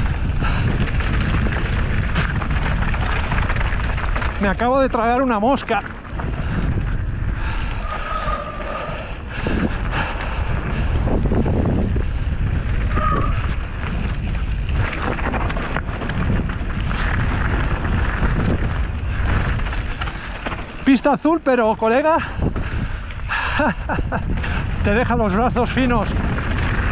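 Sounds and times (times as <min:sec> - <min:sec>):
bike frame and chain rattling: 0:00.0 - 0:26.9
bike tyres on gravel: 0:00.0 - 0:26.9
wind buffeting microphone: 0:00.0 - 0:26.9.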